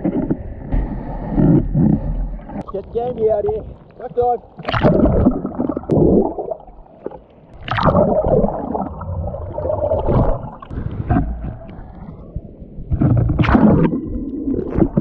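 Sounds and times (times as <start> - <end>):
underwater churning surf: 0.0 - 15.0.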